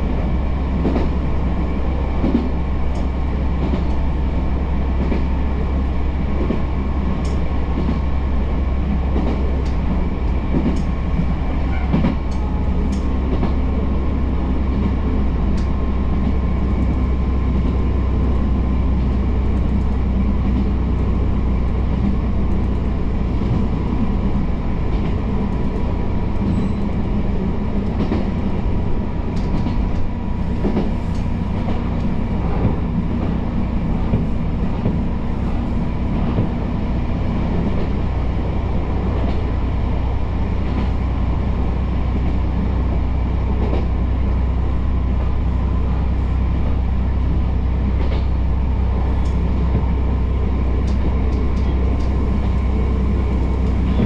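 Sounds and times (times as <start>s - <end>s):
railcar engine and rolling drone: 0.0s - 54.0s.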